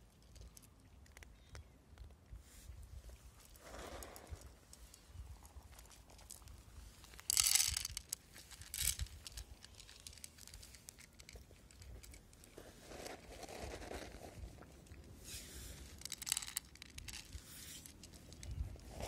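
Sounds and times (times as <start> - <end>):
cats crunching dry kibble: 0.0 - 19.0.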